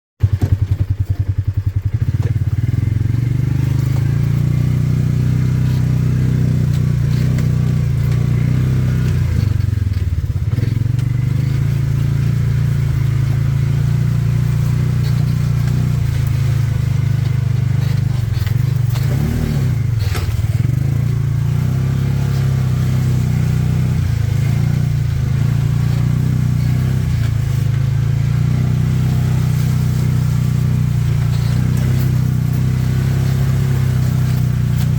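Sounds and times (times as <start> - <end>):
vehicle engine running under load: 0.2 - 34.9.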